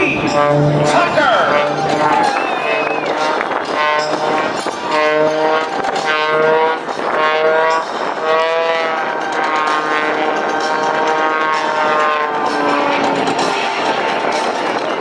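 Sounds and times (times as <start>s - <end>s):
propeller plane engine running hard: 0.0s - 15.0s.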